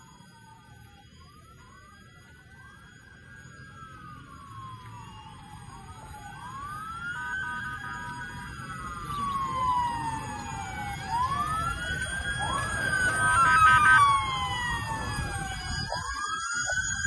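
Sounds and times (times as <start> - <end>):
sirens wailing: 0.0 - 17.0.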